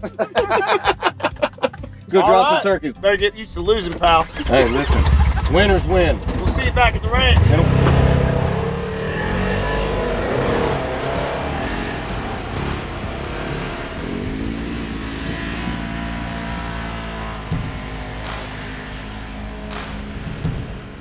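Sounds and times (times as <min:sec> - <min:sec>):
utility vehicle engines revving: 0:01.7 - 0:21.0.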